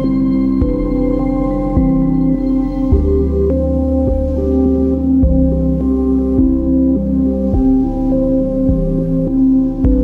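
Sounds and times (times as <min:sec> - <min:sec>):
low drone: 0:00.0 - 0:10.0
soft synthesizer notes: 0:00.0 - 0:10.0.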